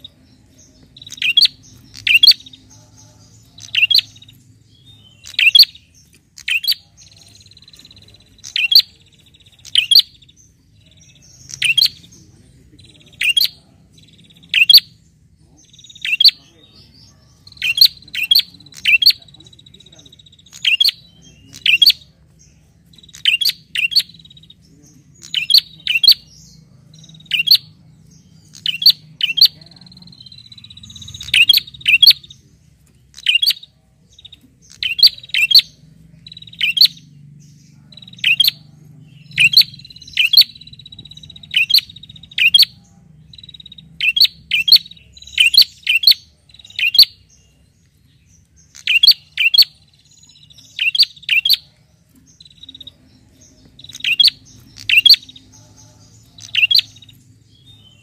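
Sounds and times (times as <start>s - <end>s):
bird chirping sharply: 0.0s - 22.1s, 22.8s - 32.4s, 33.0s - 47.6s, 48.4s - 51.7s, 52.3s - 58.0s.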